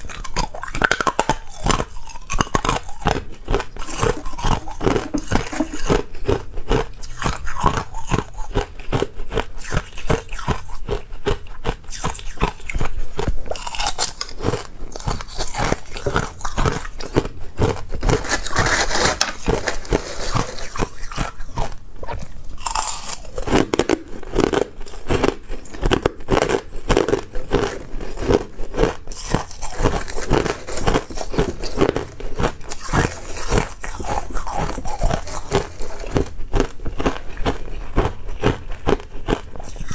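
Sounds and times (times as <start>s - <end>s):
chewing ice crunching: 0.0s - 39.9s.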